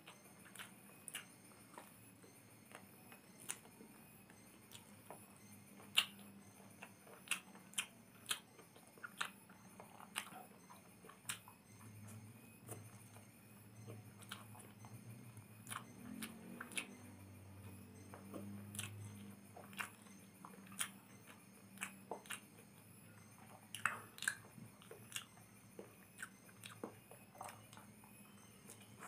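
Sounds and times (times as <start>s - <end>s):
person chewing with wet smacking: 0.0s - 29.0s.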